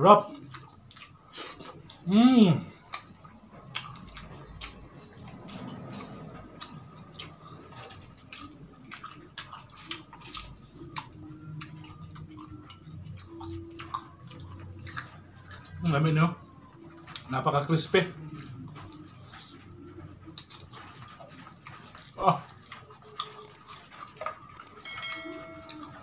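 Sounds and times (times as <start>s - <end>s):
chewing crispy food: 0.0s - 26.0s.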